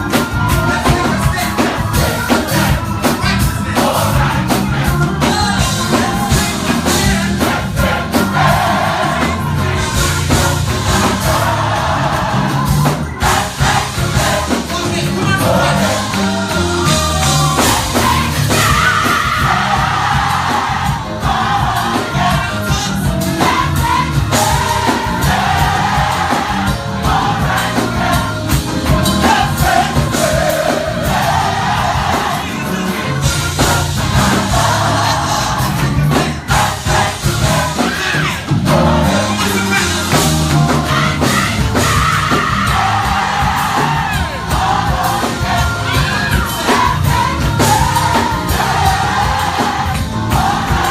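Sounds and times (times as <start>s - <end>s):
gospel choir singing with band: 0.0s - 50.9s.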